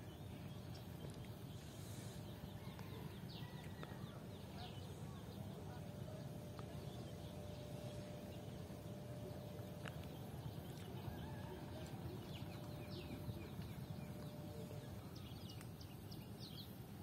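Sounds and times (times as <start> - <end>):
birds chirping: 0.0 - 17.0
faint hum: 0.0 - 17.0
low steady rumble: 0.0 - 17.0.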